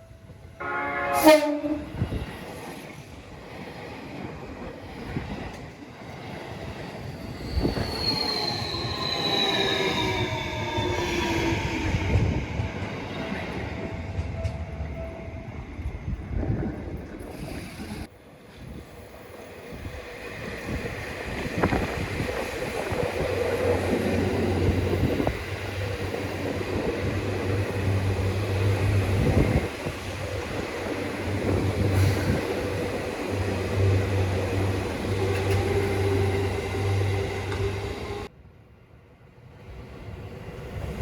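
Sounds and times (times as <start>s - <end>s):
electric train running on rails: 0.0s - 41.0s.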